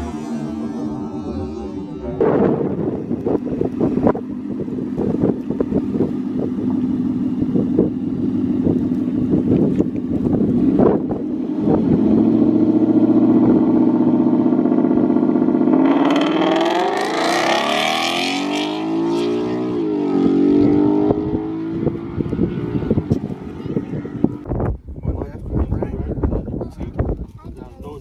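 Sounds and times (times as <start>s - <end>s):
car engine accelerating: 0.0s - 24.6s.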